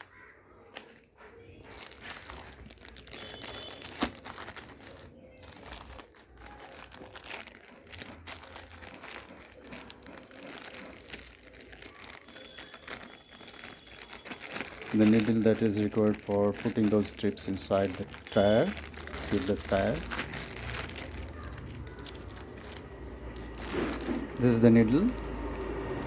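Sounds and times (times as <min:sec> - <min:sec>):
plastic packaging crinkling: 0:00.0 - 0:26.0.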